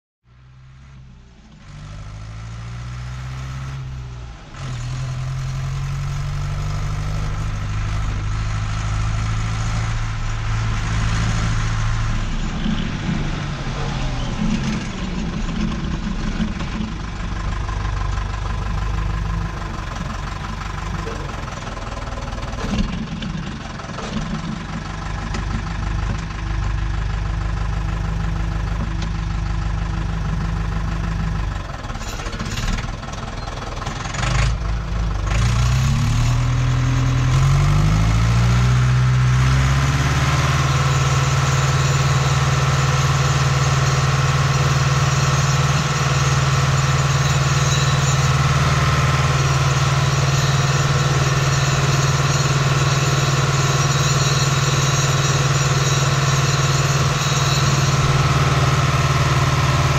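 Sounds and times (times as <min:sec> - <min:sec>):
tractor diesel engine running: 0:00.3 - 0:59.9.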